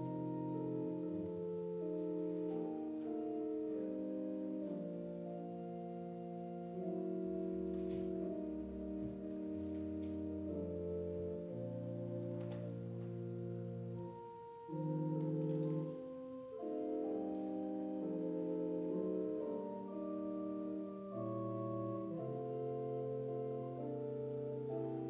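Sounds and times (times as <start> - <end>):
slow keyboard chords: 0.0 - 25.0.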